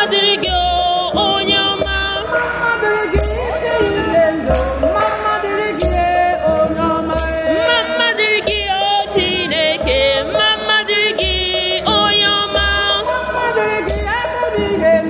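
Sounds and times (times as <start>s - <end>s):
steady beat: 0.0s - 15.0s
voices singing a hymn: 0.0s - 15.0s.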